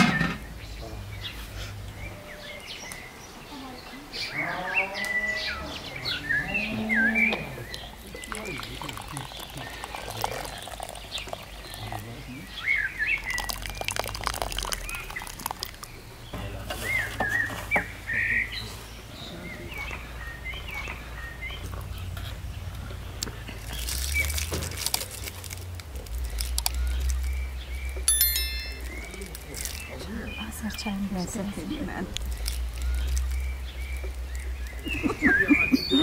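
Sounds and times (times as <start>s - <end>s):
small birds chirping and singing: 0.0s - 36.0s.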